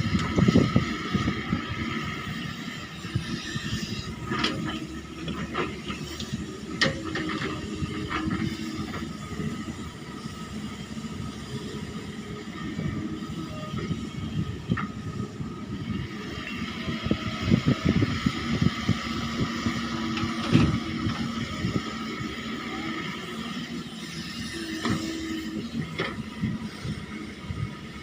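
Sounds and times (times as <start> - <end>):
excavator running: 0.0 - 28.0.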